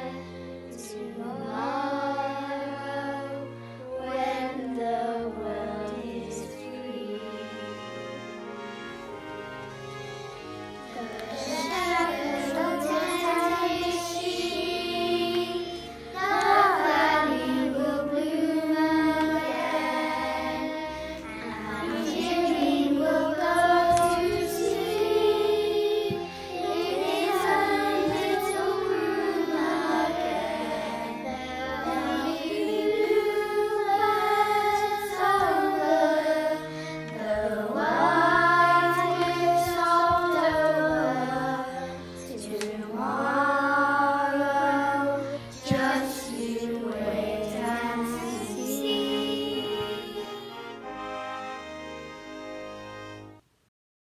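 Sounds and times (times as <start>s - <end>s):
children's choir singing: 0.0s - 53.1s.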